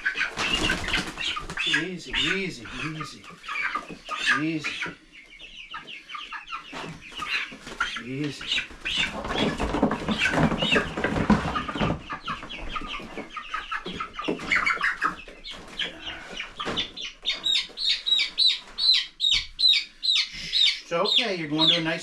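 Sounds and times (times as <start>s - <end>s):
chickens clucking and squawking: 0.0s - 22.0s
chicks distress peeps: 0.0s - 22.0s.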